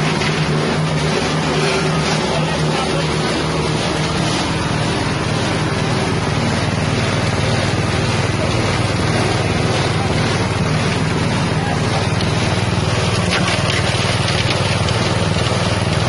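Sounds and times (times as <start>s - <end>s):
engine-driven grinding machine: 0.0s - 16.0s.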